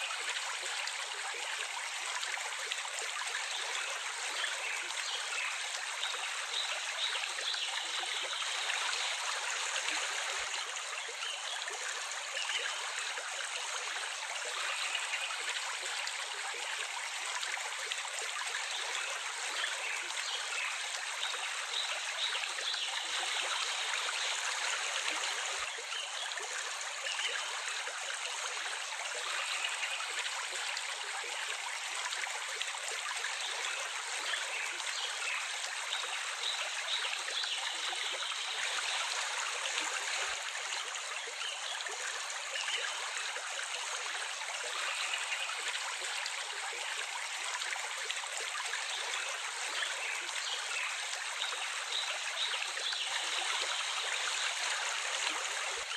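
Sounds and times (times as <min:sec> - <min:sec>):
stream water babbling: 0:00.0 - 0:55.9.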